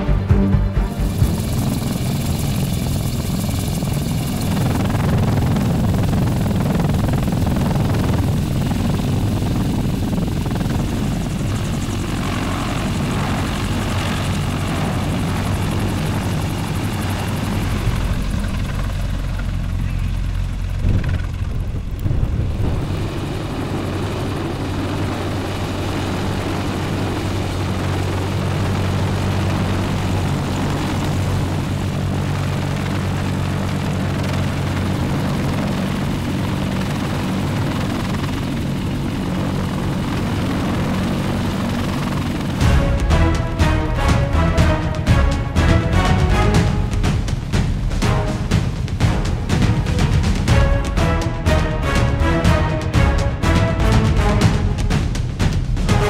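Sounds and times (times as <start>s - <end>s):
helicopter rotor and engine noise: 0.0s - 56.0s.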